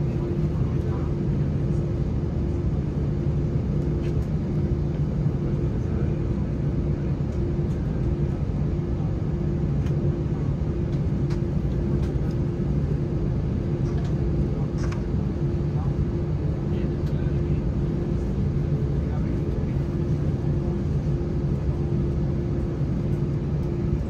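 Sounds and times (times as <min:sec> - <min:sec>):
aircraft cabin hum: 0:00.0 - 0:24.0.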